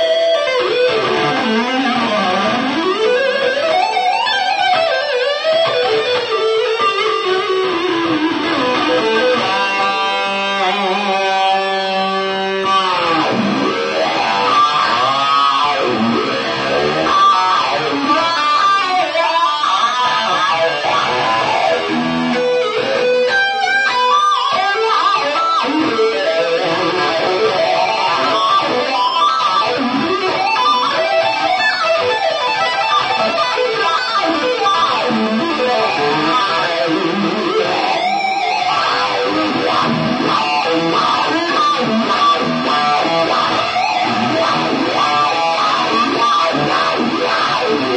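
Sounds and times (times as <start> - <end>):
electric guitar pitch bending: 0.0 - 47.9.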